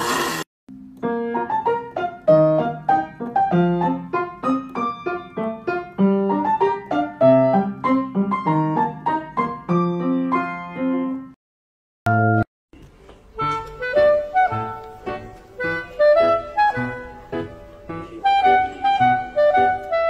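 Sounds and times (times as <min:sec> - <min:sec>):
gentle piano melody: 0:00.7 - 0:11.4, 0:12.1 - 0:20.0.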